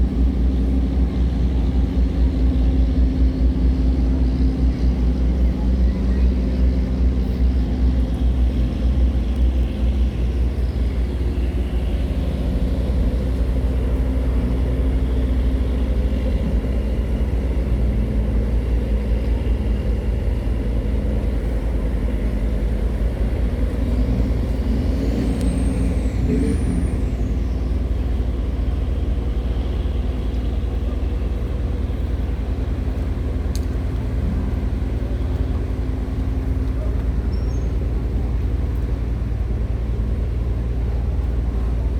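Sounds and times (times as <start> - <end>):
diesel engine deep rumble: 0.0 - 41.9.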